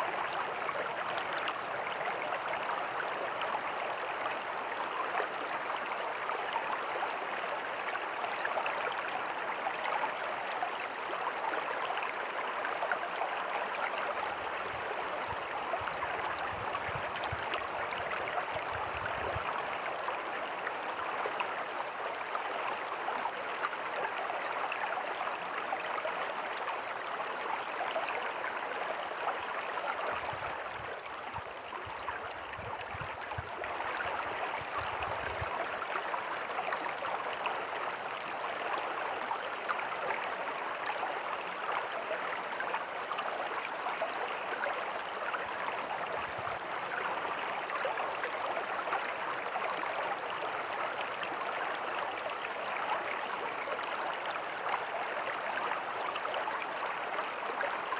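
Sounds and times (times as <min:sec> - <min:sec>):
water babbling over rocks: 0:00.0 - 0:57.9.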